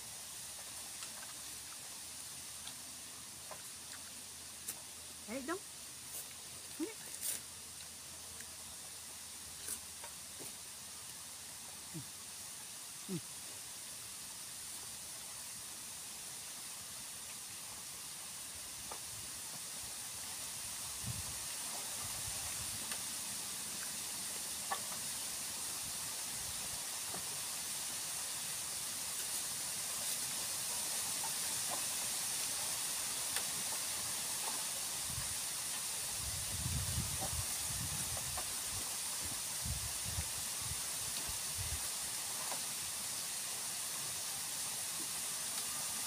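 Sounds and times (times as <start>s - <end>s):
high-pitched outdoor hiss: 0.0s - 46.0s.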